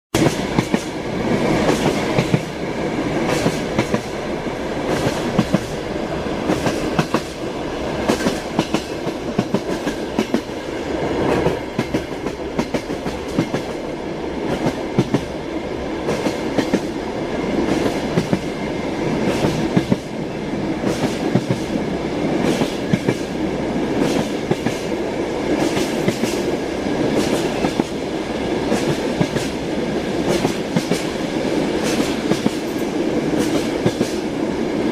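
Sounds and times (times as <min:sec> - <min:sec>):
train wheels clattering on rails: 0:00.2 - 0:34.9.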